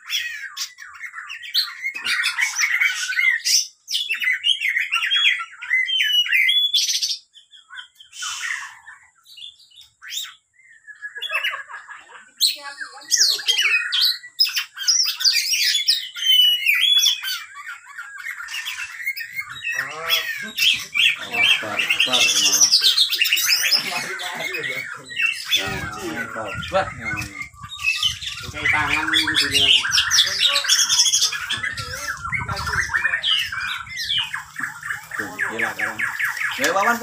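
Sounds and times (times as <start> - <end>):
magpie-robin singing: 0.0 - 37.0.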